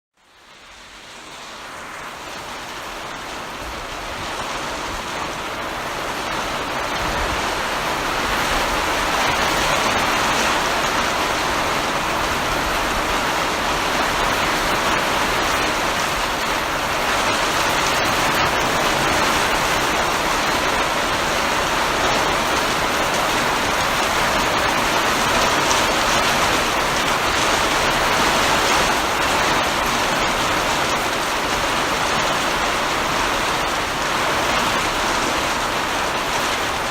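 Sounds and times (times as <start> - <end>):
heavy rain falling: 0.2 - 36.9.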